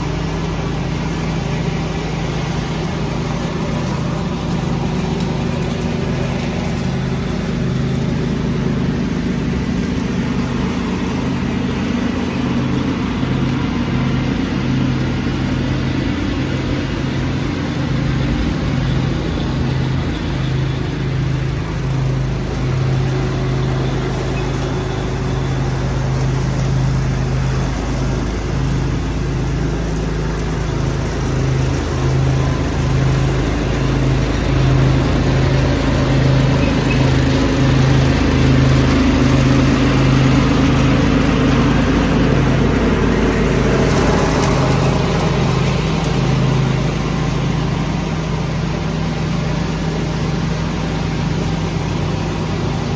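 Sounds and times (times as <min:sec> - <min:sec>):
lawn tractor engine running: 0:00.0 - 0:52.9
leaf vacuum rushing: 0:00.0 - 0:52.9.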